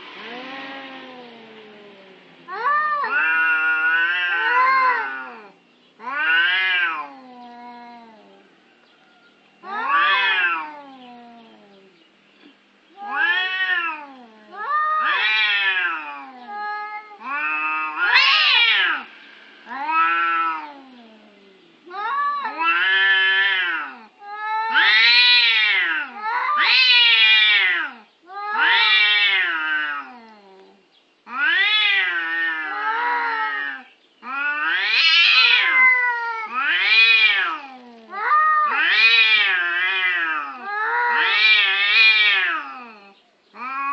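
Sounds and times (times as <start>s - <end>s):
cats yowling: 0.0s - 8.7s, 9.6s - 12.0s, 12.9s - 43.9s.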